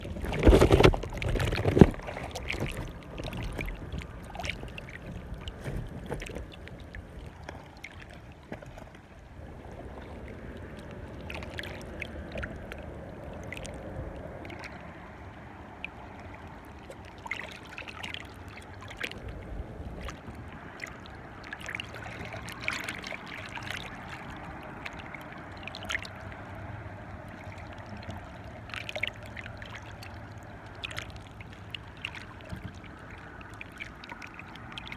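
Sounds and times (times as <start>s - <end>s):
waves lapping on shore: 0.0s - 34.9s.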